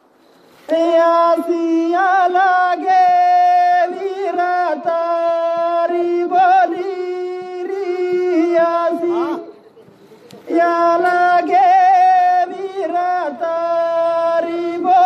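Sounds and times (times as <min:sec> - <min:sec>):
devotional singing: 0:00.5 - 0:15.0.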